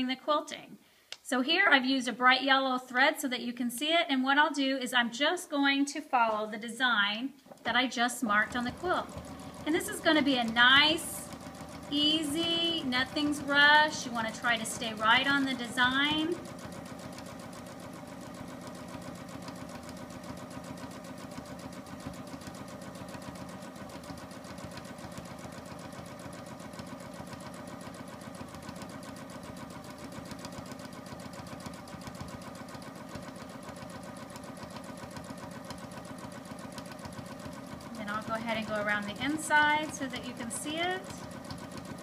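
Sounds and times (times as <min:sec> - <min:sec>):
sewing machine stitching: 0:07.5 - 0:42.0.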